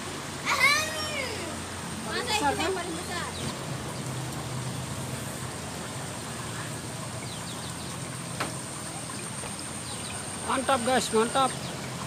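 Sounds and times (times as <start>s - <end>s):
constant high hiss: 0.0s - 12.0s.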